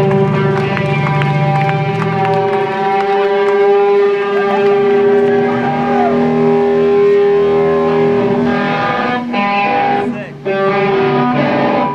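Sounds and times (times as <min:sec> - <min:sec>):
electric guitar feedback drone: 0:00.0 - 0:11.9.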